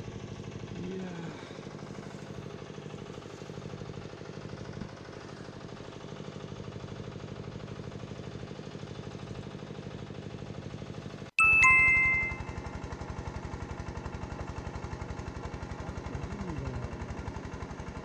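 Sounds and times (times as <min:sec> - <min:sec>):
motor running: 0:00.0 - 0:10.9, 0:12.3 - 0:18.0.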